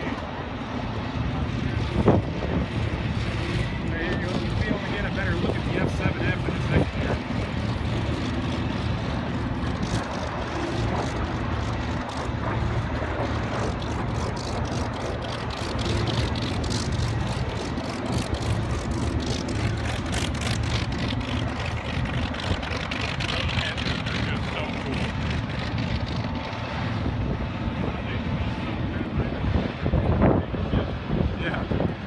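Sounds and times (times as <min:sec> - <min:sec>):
aircraft engine running: 0:00.0 - 0:32.0.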